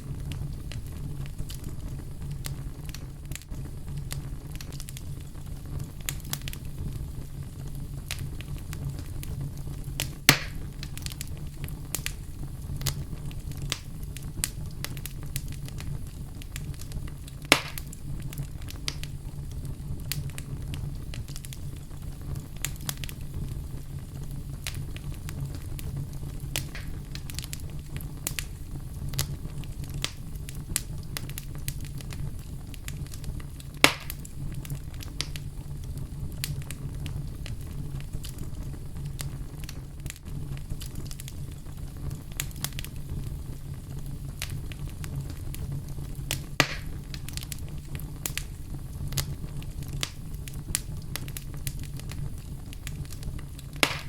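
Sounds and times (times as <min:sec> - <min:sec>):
fire crackling: 0:00.0 - 0:54.0
fire popping: 0:00.0 - 0:54.0
wood fire rumble: 0:00.0 - 0:54.0.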